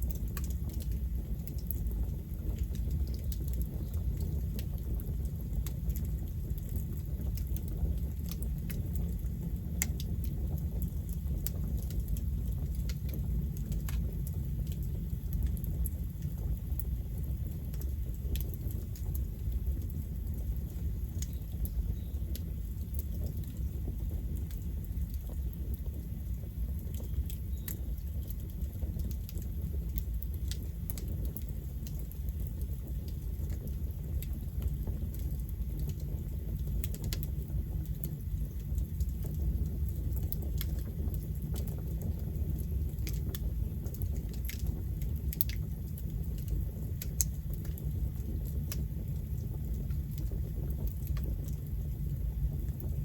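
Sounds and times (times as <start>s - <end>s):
campfire crackling and popping: 0.0s - 53.0s
low fire rumble: 0.0s - 53.0s.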